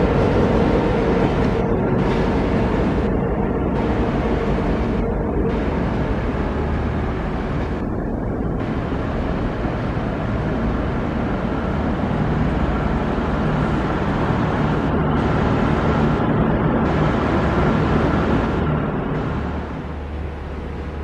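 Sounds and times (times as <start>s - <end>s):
locomotive diesel engine running: 0.0s - 21.0s.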